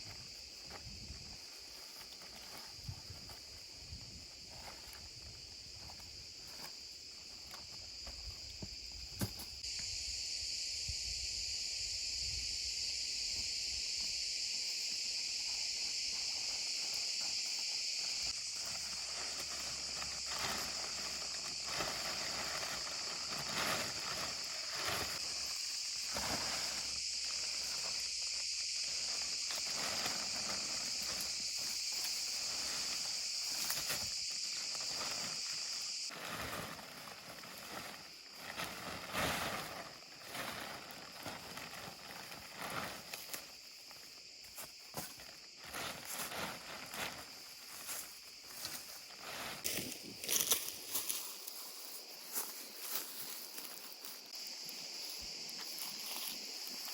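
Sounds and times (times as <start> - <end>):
insect chirring: 0.0 - 56.9.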